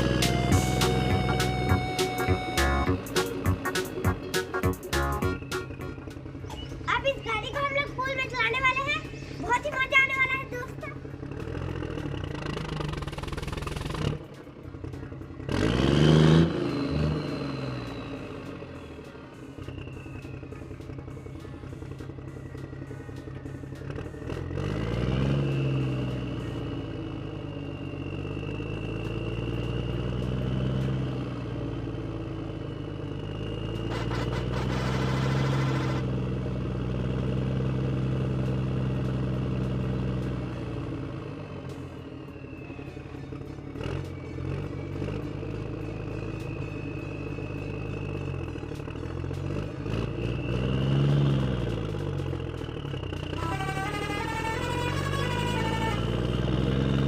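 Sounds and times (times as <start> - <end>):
heavy vehicle engine revving: 0.0 - 42.4, 43.3 - 57.0.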